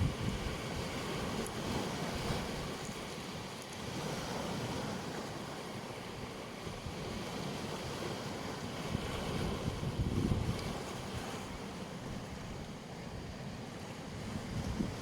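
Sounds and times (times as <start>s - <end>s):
surf washing onto beach: 0.0s - 15.0s
wind rumble on microphone: 0.0s - 15.0s.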